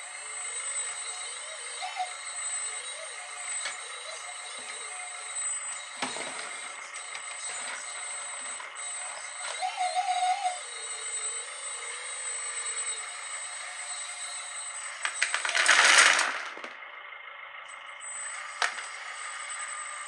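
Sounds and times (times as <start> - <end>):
high electric whine: 0.0 - 16.7.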